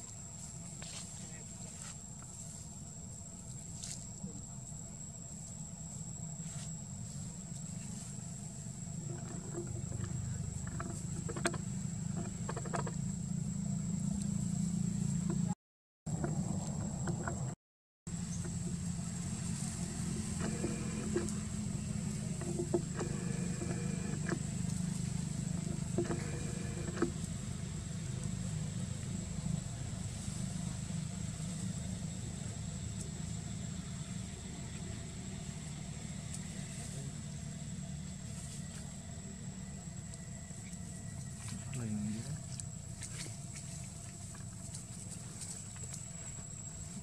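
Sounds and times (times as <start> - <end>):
low engine drone: 6.2 - 47.0.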